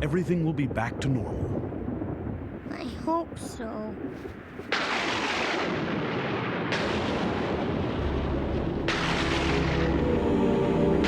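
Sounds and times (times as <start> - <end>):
thunder cracking and rumbling: 0.0 - 10.4.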